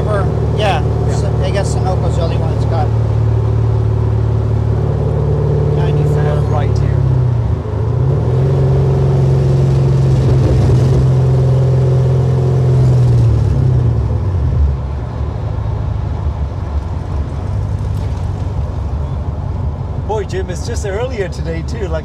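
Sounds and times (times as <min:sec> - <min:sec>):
car engine from inside cabin: 0:00.0 - 0:22.0
road noise: 0:00.0 - 0:22.0.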